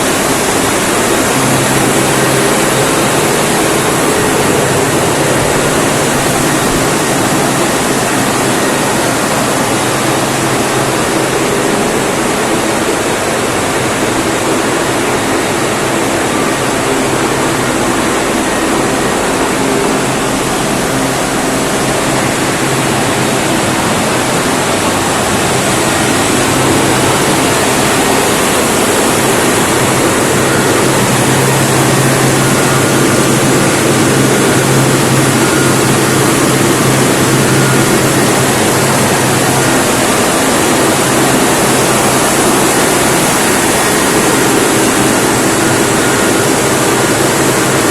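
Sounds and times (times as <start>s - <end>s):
diesel generator roaring: 0.0s - 47.9s.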